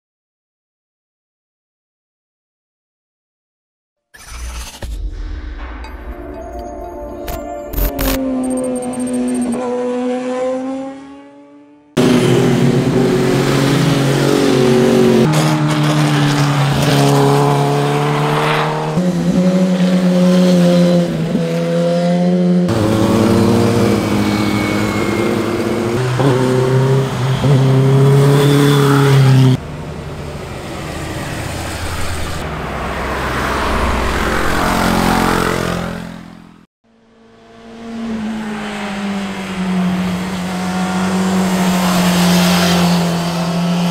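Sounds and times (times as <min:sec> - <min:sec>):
motorcycle engines revving: 0:08.1 - 0:43.9.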